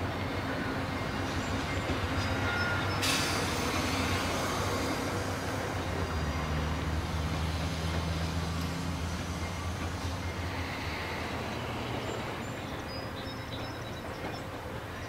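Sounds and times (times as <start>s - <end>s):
diesel train rumble: 0.0s - 15.0s.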